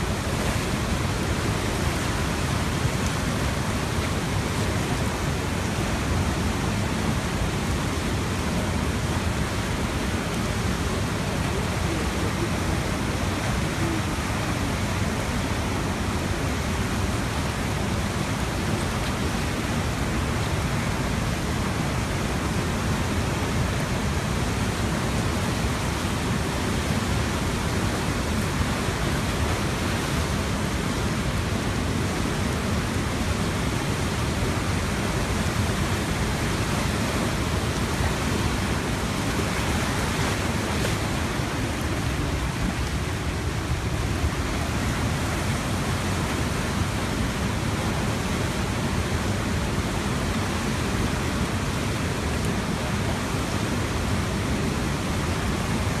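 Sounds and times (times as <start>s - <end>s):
flood water rushing: 0.0s - 56.0s.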